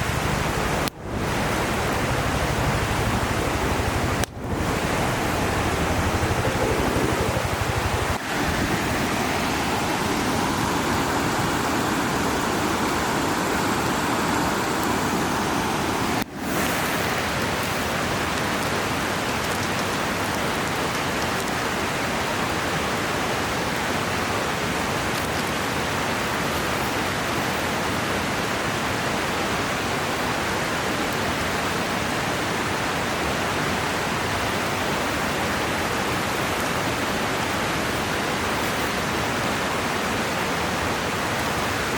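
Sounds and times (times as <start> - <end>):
river water rushing: 0.0 - 41.9.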